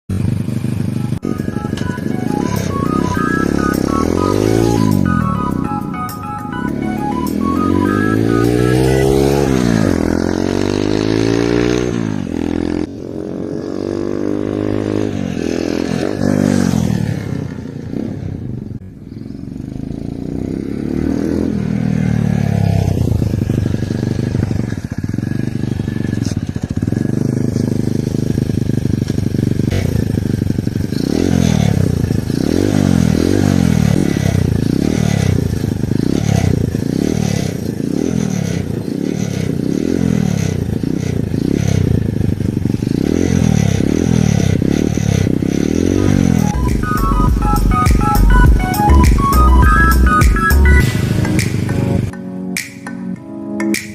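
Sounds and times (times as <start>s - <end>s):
minibike engine revving: 0.1s - 51.2s.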